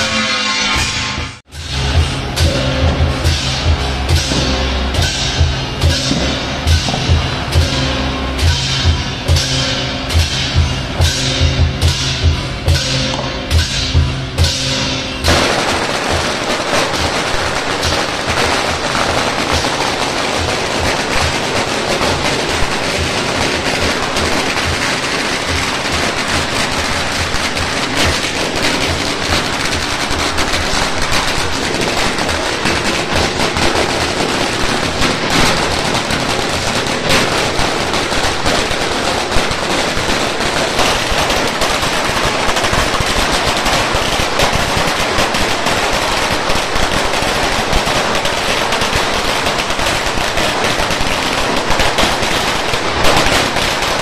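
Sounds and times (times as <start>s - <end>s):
firecrackers crackling rapidly: 0.0s - 54.0s.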